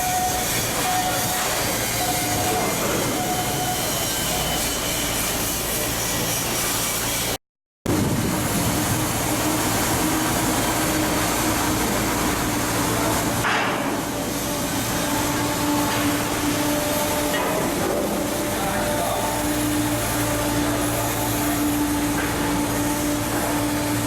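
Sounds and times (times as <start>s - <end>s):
industrial shipbuilding din: 0.0s - 24.0s.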